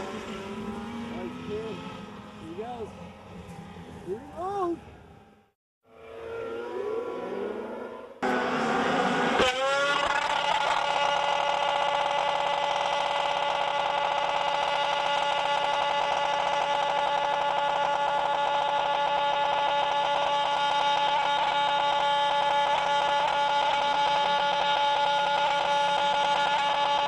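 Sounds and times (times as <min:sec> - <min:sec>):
snowmobile engine revving: 0:00.0 - 0:27.0.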